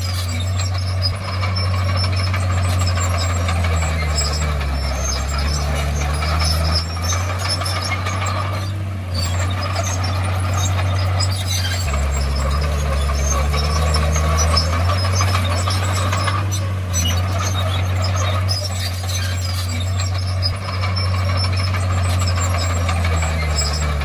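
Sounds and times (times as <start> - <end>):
diesel engine running loudly: 0.0 - 24.0
metallic clanks and squeals: 0.0 - 24.0.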